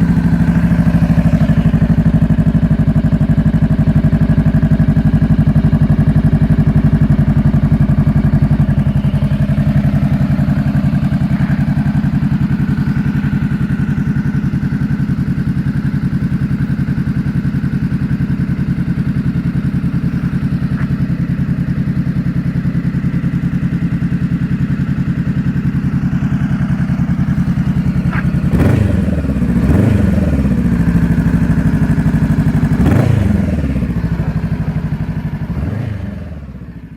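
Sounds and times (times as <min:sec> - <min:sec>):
motorcycle engine idling: 0:00.0 - 0:36.9
motorcycle engine revving: 0:00.0 - 0:36.9.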